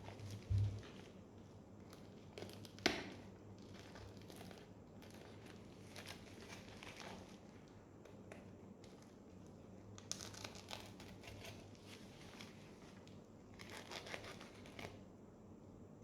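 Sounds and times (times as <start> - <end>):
packaging crinkling and rustling: 0.0 - 1.2, 1.9 - 15.0.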